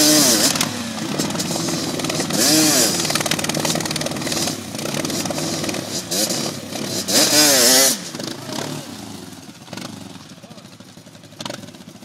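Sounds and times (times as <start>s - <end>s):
quad bike engine revving: 0.0s - 12.0s
wheels spinning in mud: 0.0s - 12.0s.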